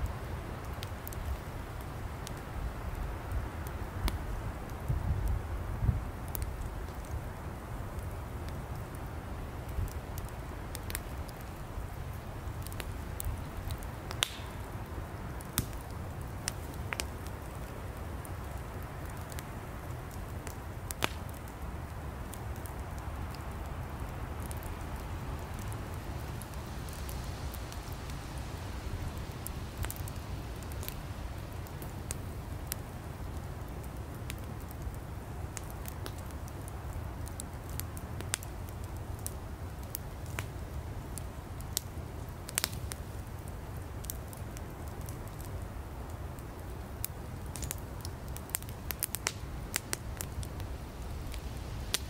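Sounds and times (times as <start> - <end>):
campfire flames rumbling: 0.0 - 52.0
firewood crackling and popping: 0.0 - 52.0.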